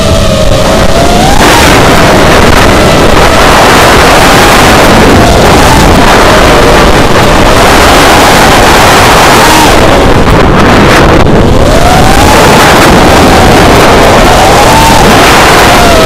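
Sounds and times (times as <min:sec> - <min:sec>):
quadcopter motors whining: 0:00.0 - 0:16.0
wind rush on microphone: 0:00.0 - 0:16.0.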